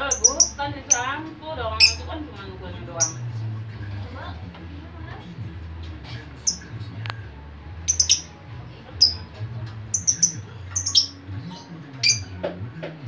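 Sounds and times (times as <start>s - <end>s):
bird chirping: 0.0s - 4.4s, 5.2s - 12.6s
low steady hum: 0.0s - 12.0s.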